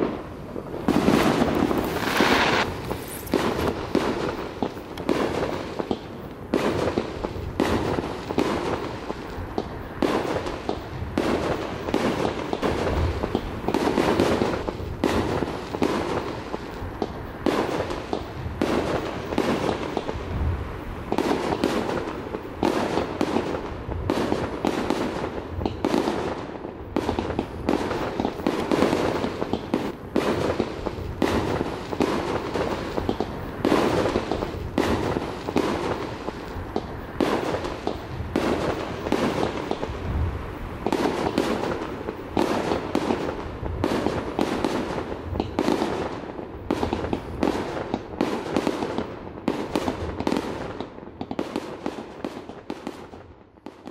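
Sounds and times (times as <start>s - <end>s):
fireworks bursting: 0.0s - 53.9s.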